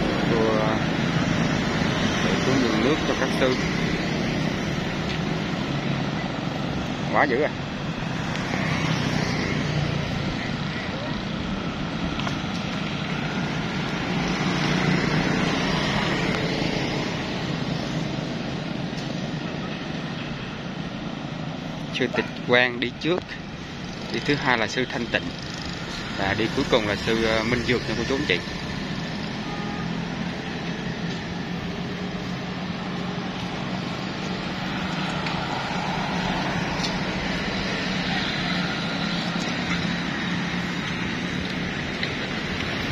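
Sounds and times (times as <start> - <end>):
motor vehicle running: 0.0 - 42.9
road noise: 0.0 - 42.9.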